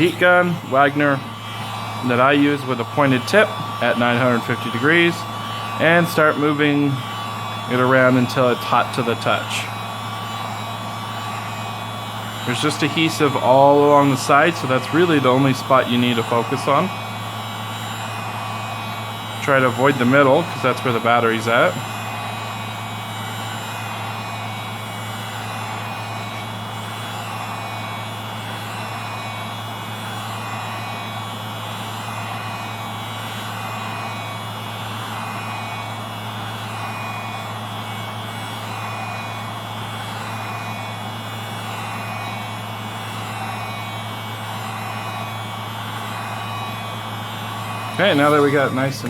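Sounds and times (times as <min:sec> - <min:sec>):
heat gun blowing: 0:00.0 - 0:49.0.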